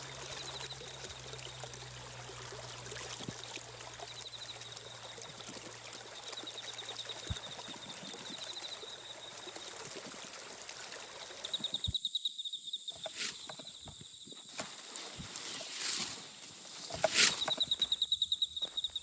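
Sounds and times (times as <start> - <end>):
running water: 0.0 - 12.0, 13.0 - 17.9.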